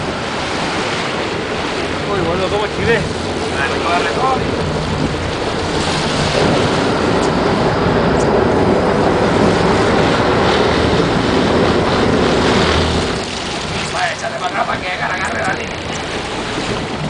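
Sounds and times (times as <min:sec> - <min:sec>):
boat engine running: 0:00.0 - 0:17.0
water rushing along hull: 0:00.0 - 0:17.0.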